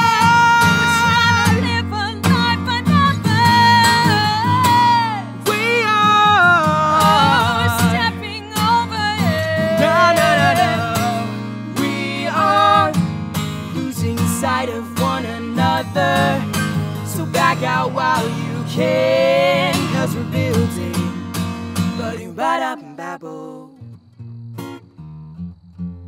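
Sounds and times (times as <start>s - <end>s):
woman and man singing: 0.0s - 13.0s, 13.7s - 23.9s
acoustic guitar: 0.0s - 26.0s.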